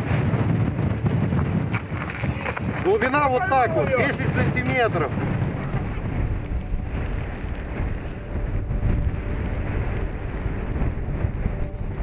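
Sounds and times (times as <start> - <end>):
wind blowing across microphone: 0.0 - 12.0.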